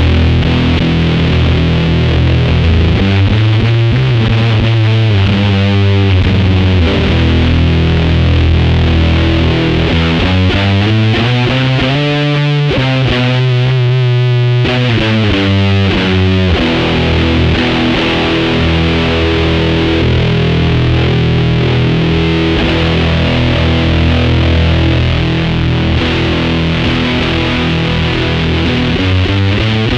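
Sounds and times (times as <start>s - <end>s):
fuzz electric guitar: 0.0s - 29.9s.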